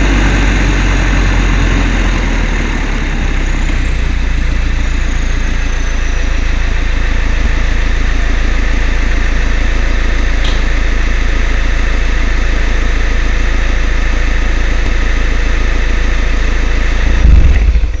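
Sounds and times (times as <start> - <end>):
diesel car exhaust idling: 0.0 - 18.0.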